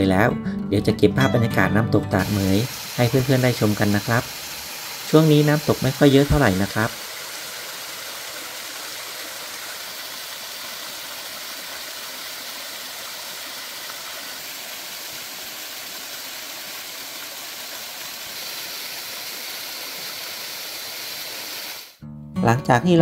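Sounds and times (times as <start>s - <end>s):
small waterfall rushing: 2.2s - 22.0s.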